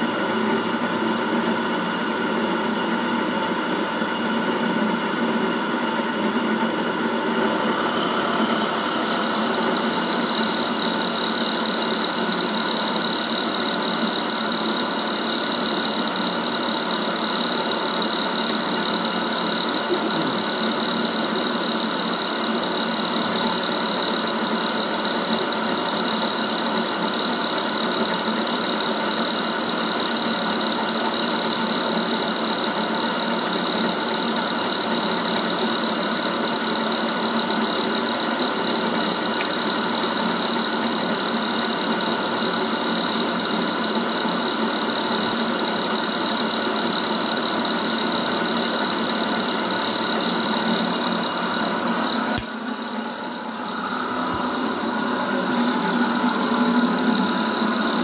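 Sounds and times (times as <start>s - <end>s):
milling machine whining: 0.0s - 58.0s.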